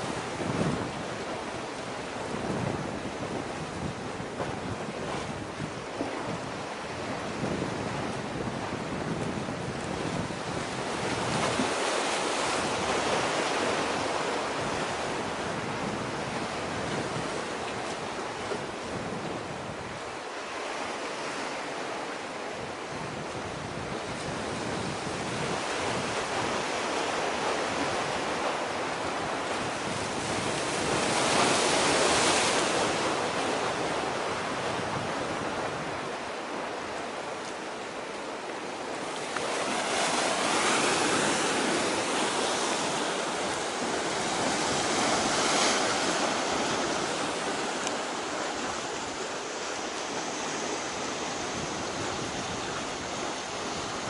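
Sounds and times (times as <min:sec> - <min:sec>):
sea surf rushing: 0:00.0 - 0:54.0
wind: 0:00.0 - 0:54.0.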